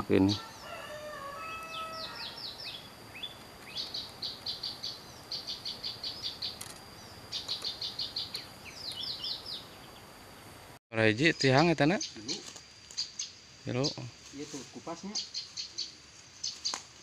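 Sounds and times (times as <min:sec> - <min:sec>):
small songbird chirping: 0:00.0 - 0:10.6, 0:11.2 - 0:17.0.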